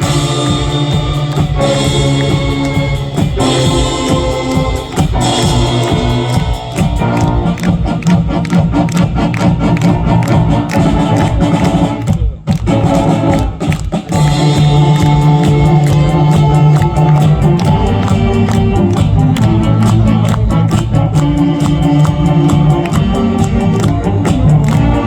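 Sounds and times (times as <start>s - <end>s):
saxophone big band playing: 0.0s - 25.0s
steady drum beat: 0.0s - 25.0s.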